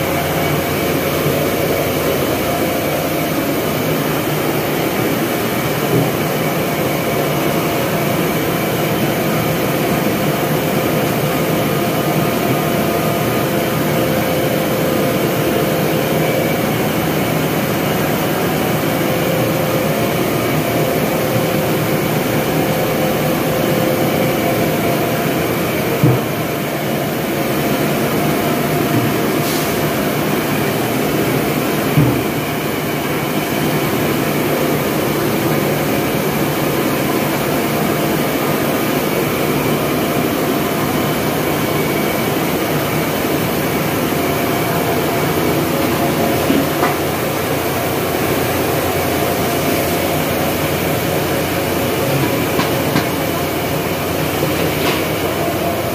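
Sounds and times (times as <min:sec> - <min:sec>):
mill machinery droning: 0:00.0 - 0:55.9.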